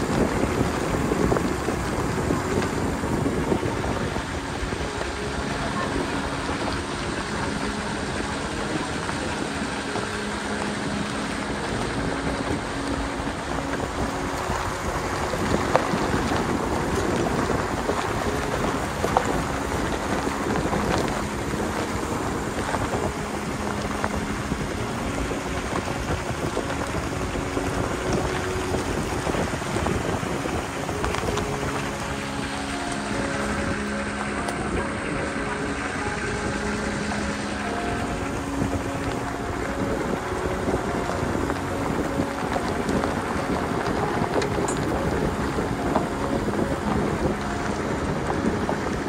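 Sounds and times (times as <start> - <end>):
rushing rumble of driving: 0.0 - 49.0.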